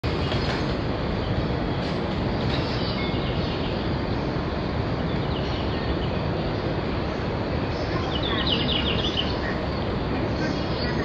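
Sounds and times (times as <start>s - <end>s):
electric train rumbling away: 0.0s - 11.0s.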